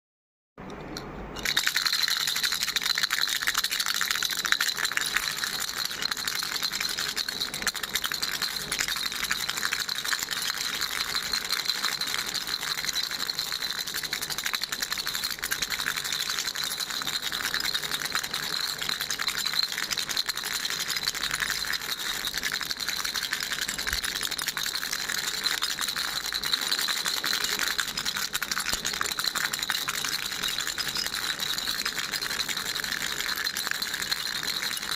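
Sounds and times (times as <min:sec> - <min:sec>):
baby rattle shaken fast: 0:01.0 - 0:34.9.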